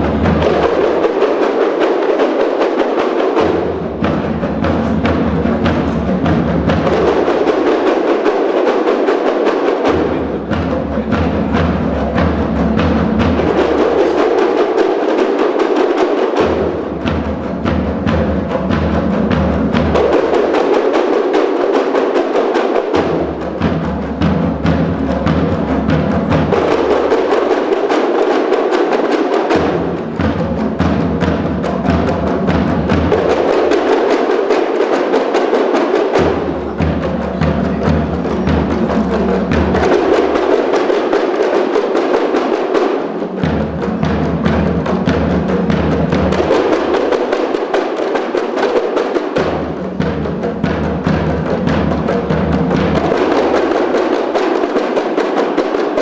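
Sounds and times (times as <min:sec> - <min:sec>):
busy percussion: 0:00.0 - 0:56.0.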